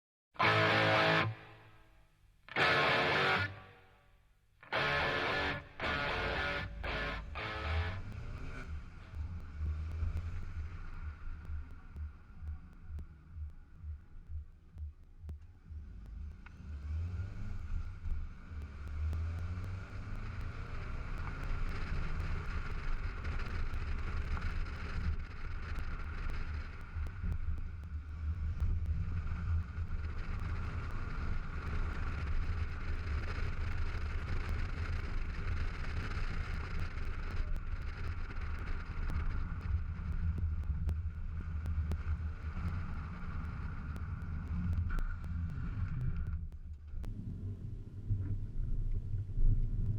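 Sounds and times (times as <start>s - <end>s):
engine and road rumble: 4.6s - 49.9s.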